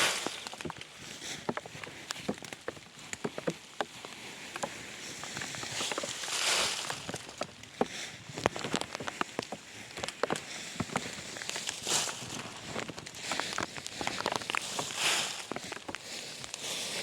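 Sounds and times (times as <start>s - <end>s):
raindrops pattering: 0.0s - 1.4s, 3.9s - 16.8s.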